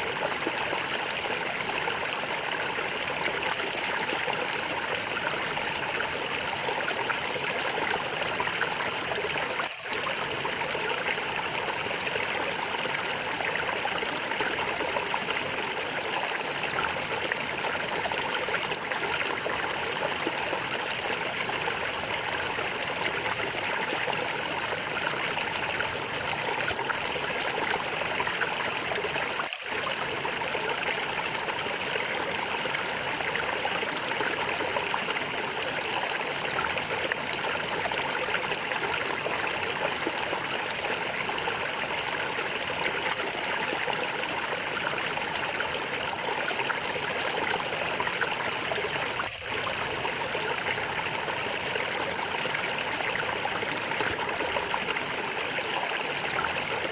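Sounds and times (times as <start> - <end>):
stream flowing and gurgling: 0.0 - 56.9.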